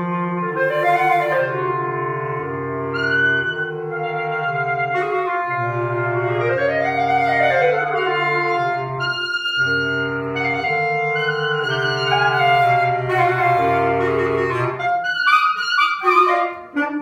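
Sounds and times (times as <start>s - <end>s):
instrumental music with held notes: 0.0s - 17.0s.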